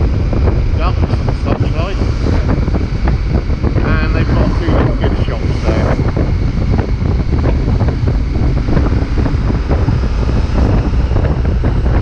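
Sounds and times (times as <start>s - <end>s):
heavy wind buffeting microphone: 0.0s - 12.0s.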